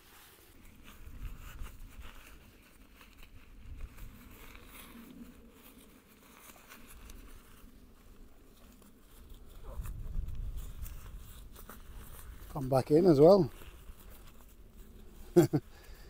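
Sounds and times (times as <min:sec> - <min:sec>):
nylon sack rustling and crinkling: 0:00.0 - 0:16.0.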